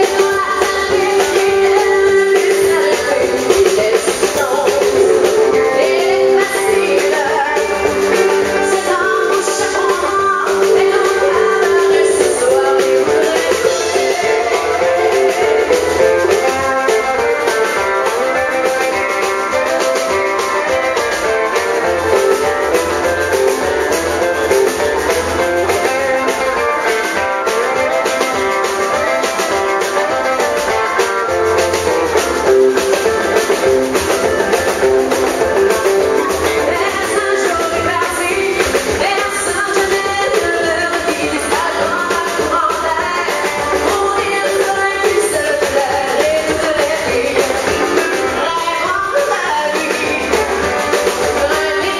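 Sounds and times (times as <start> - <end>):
woman singing: 0.0 - 31.0, 33.0 - 51.9
country band playing: 0.0 - 51.9
electric guitar: 0.0 - 51.9.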